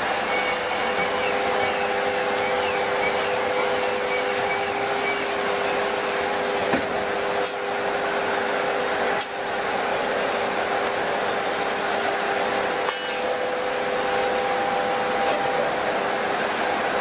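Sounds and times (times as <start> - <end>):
constant humming tone: 0.0 - 17.0
machinery blowing rush: 0.0 - 17.0.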